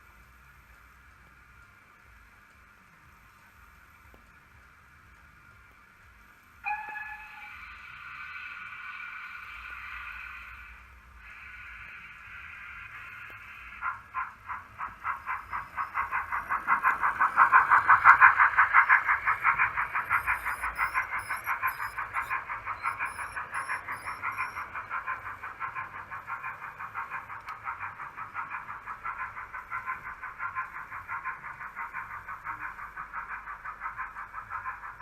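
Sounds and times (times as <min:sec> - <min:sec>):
model steam locomotive chuffing: 0:00.0 - 0:35.0.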